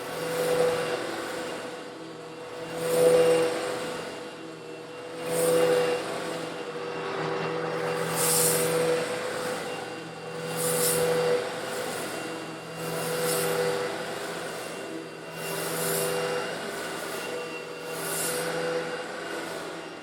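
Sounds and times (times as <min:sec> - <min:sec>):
vacuum cleaner motor hum: 0:00.0 - 0:20.0.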